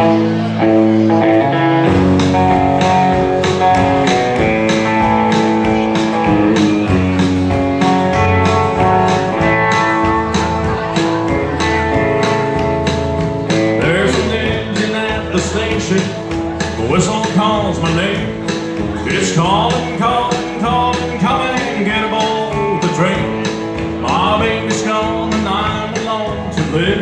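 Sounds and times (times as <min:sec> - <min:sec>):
bass line: 0:00.0 - 0:27.0
guitar melody: 0:00.0 - 0:27.0
steady drum beat: 0:01.8 - 0:27.0.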